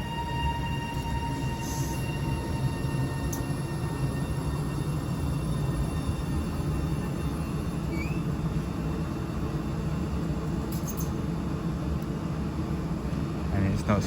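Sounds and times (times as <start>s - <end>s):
railway station rumble and hum: 0.0s - 14.0s.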